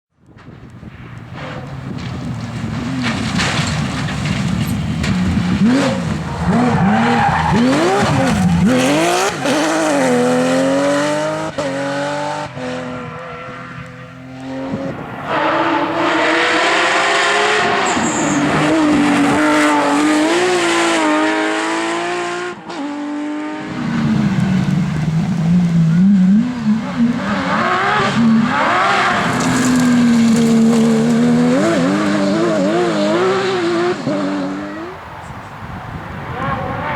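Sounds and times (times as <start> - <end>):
rally car engine revving: 0.4 - 36.9.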